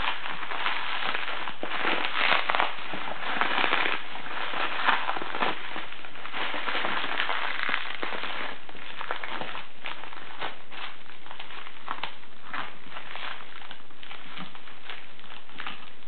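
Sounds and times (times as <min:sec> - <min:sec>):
plastic bag crinkling and tearing: 0:00.0 - 0:16.0.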